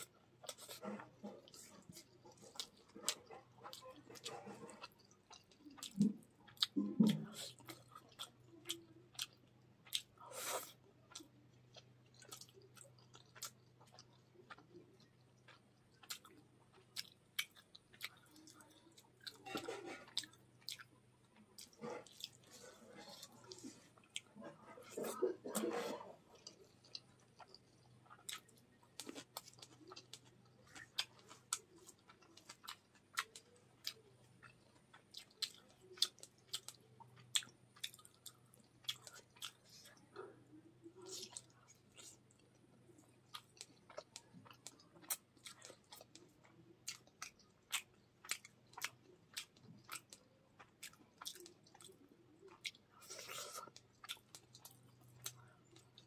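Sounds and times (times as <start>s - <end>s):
chewing fish and rice: 0.0s - 56.0s.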